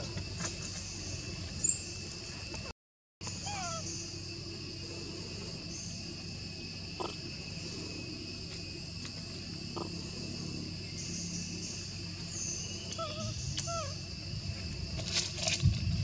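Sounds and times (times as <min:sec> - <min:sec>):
low background hum: 0:00.0 - 0:15.7
insect chorus drone: 0:00.0 - 0:16.0.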